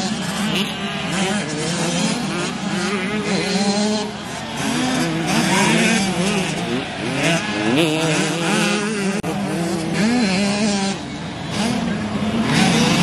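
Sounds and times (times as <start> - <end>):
motocross bikes revving past: 0.0 - 13.0.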